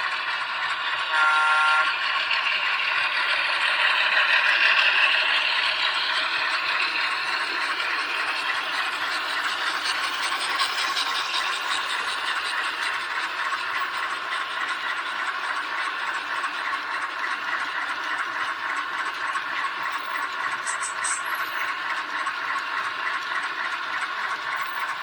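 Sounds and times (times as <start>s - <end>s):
model train whirring and rattling: 0.0s - 25.0s.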